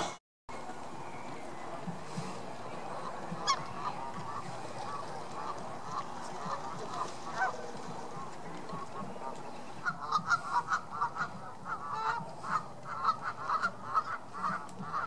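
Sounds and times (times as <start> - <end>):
birds chattering: 0.5 - 15.0.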